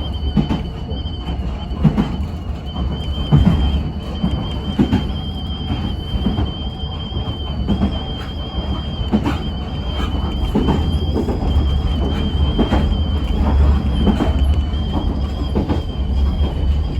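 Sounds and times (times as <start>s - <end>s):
train low rumble: 0.0s - 16.9s
wheels knocking on track: 0.0s - 16.9s
thin high whine: 2.2s - 16.9s.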